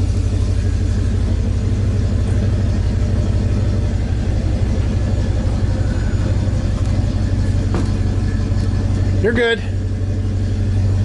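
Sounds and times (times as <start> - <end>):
truck engine running low: 0.0 - 11.0.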